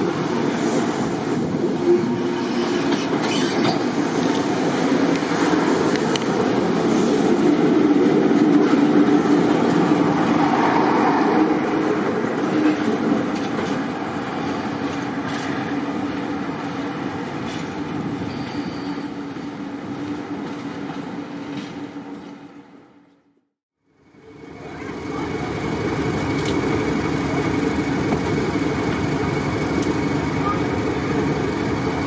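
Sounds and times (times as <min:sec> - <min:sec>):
diesel locomotive engine: 0:00.0 - 0:23.2, 0:23.8 - 0:32.0
train wheels rumbling on track: 0:00.0 - 0:23.2, 0:24.2 - 0:32.0.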